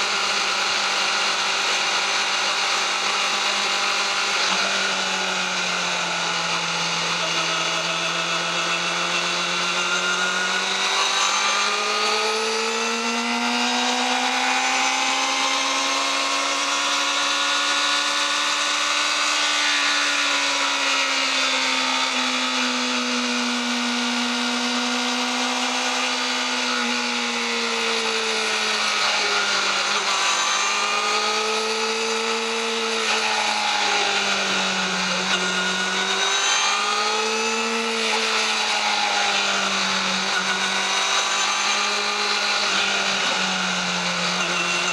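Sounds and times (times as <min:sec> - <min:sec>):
motorcycle engine revving high: 0:00.0 - 0:44.9.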